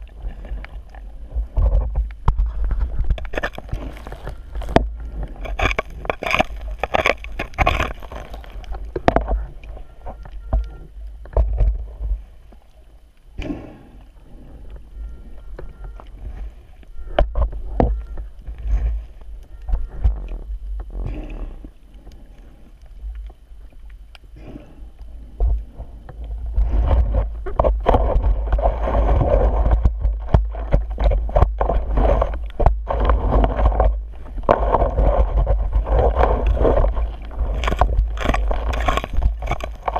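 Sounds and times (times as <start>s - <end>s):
underwater knocks and clicks: 0.0s - 12.8s, 14.6s - 22.2s, 25.4s - 39.9s
muffled underwater water rumble: 0.0s - 39.9s.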